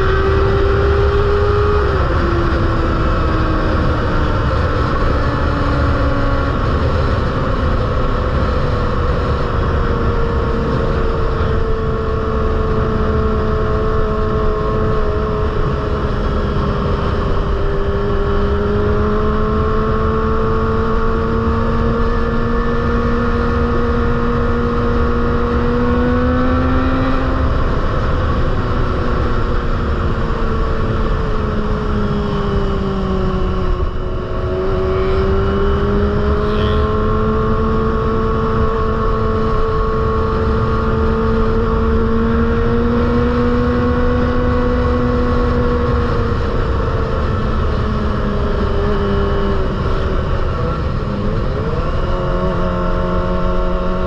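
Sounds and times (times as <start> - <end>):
high-revving motorcycle engine: 0.0 - 54.0.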